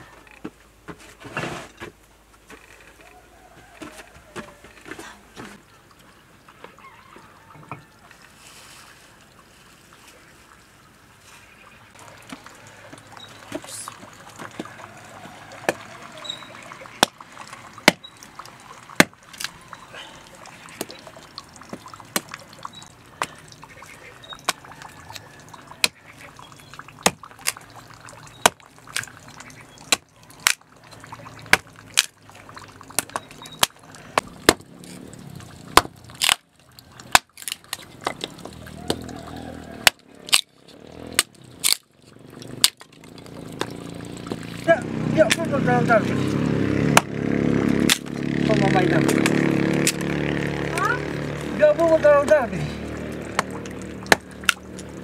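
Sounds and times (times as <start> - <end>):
liquid sloshing: 2.8 - 46.4, 49.0 - 55.0.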